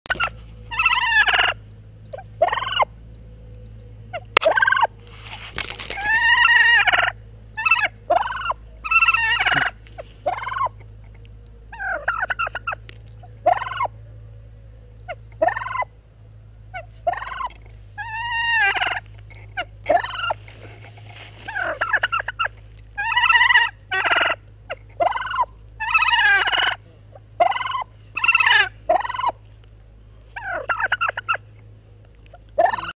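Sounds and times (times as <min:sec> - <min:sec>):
turkey gobbling: 0:00.1 - 0:03.0, 0:04.1 - 0:04.9, 0:05.7 - 0:14.0, 0:15.1 - 0:15.9, 0:16.7 - 0:29.4, 0:30.4 - 0:31.5, 0:32.3 - 0:32.9.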